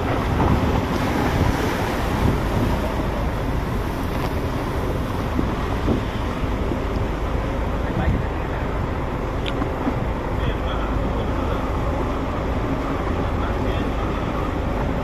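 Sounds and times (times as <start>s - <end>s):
sea waves rushing: 0.0s - 15.0s
wind buffeting microphone: 0.0s - 15.0s.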